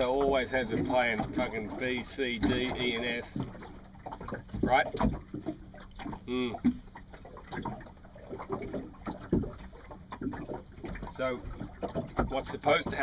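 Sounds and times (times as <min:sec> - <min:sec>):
water washing against boat hull: 0:00.0 - 0:13.0.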